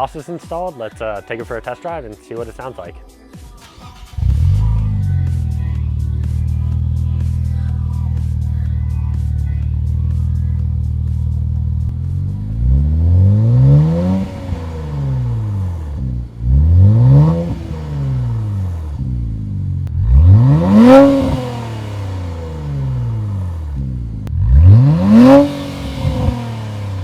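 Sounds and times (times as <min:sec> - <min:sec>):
car engine idling and revving: 0:03.6 - 0:27.0.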